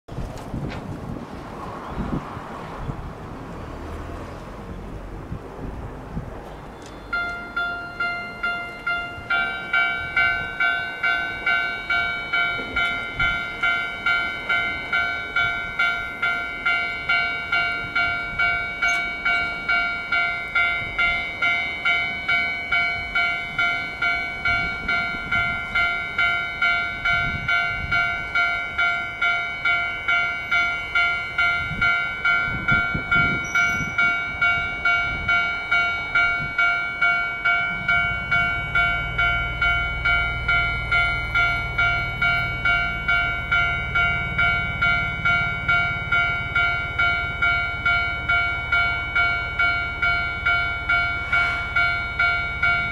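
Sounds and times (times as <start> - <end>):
level crossing warning bell: 6.4 - 52.9.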